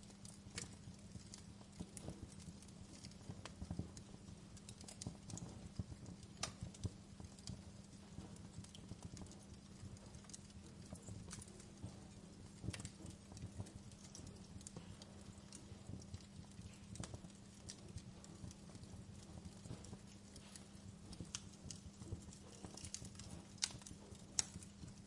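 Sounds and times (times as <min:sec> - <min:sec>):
low fire rumble: 0:00.0 - 0:25.0
wood fire crackling: 0:00.0 - 0:25.0.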